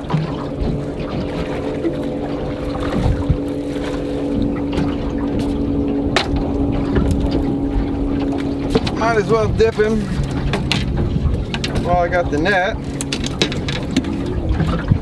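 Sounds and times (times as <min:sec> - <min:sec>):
boat motor hum: 0:00.0 - 0:15.0
water noise: 0:00.0 - 0:15.0
wind: 0:00.0 - 0:15.0.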